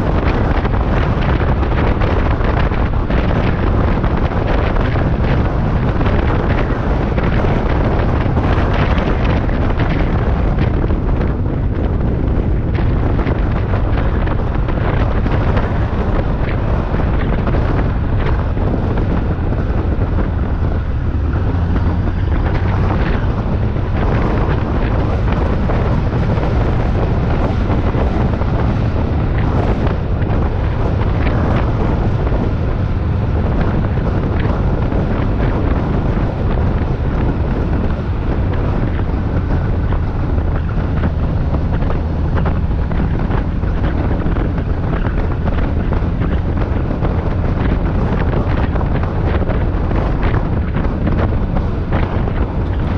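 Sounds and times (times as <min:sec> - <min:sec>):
low rumble: 0:00.0 - 0:52.9
wind buffeting microphone: 0:00.0 - 0:52.9.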